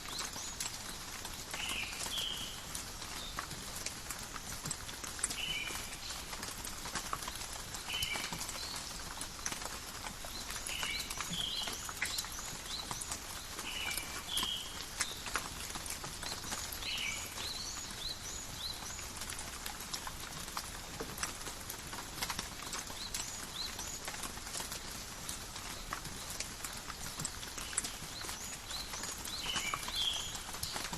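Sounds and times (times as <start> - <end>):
small birds chirping: 0.0 - 20.8, 21.9 - 30.9
light rain pattering: 0.0 - 30.9.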